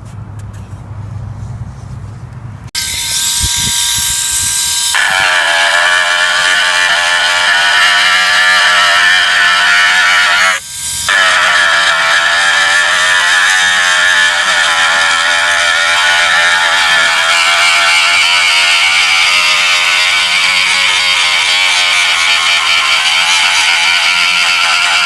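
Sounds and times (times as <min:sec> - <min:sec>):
rotary tool grinding plastic: 0:02.8 - 0:25.0.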